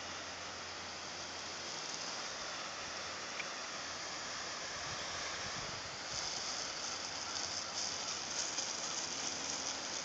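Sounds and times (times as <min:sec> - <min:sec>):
garden hose spraying water on grass: 0:00.0 - 0:10.0.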